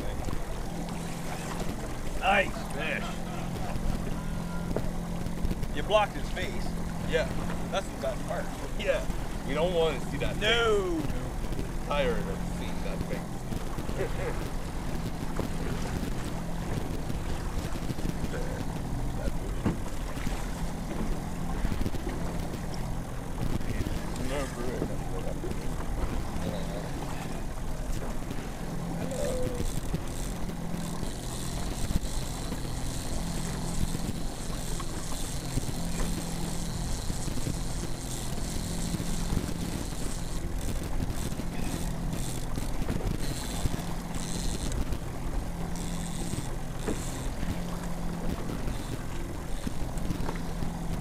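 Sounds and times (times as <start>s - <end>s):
boat motor humming: 0.0s - 51.0s.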